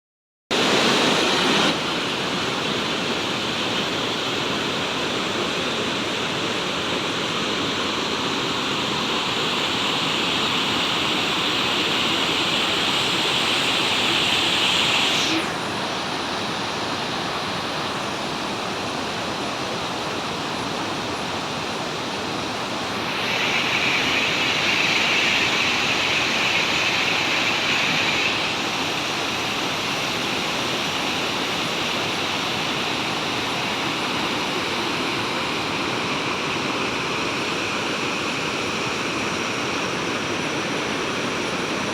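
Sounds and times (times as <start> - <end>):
waterfall rushing: 0.6 - 41.9.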